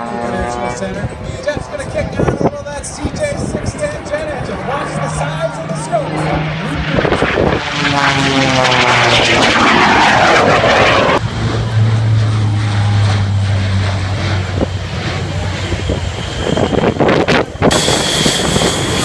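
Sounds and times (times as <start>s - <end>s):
propeller plane passing overhead: 0.0s - 19.0s
turboprop plane droning past: 0.0s - 19.0s.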